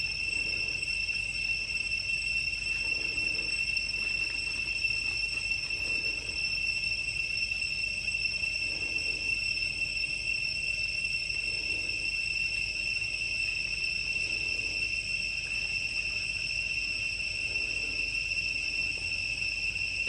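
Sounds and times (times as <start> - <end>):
insects shrilling: 0.0 - 20.0.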